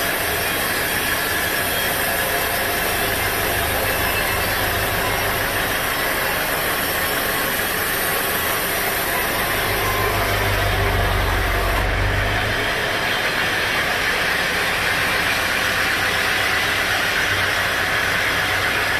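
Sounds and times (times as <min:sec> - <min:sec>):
sawmill machinery engine hum: 0:00.0 - 0:18.9.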